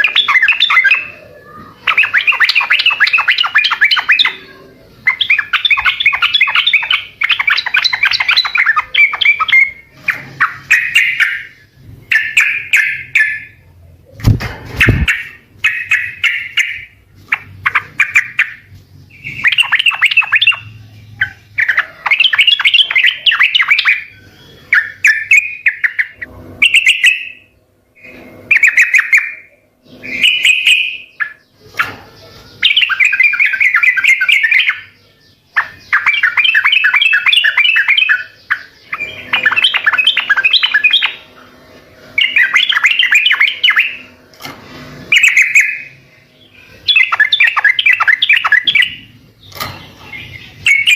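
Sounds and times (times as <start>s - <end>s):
bird singing chattering phrases: 0.0s - 50.9s.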